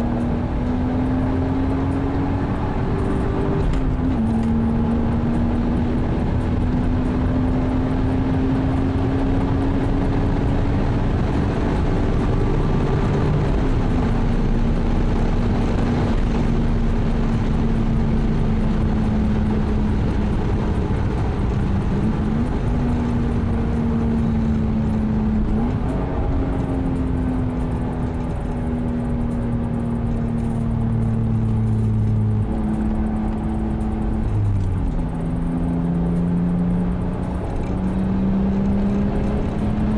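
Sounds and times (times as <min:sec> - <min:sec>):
car engine running hard: 0:00.0 - 0:39.9
wind and road noise: 0:00.0 - 0:39.9.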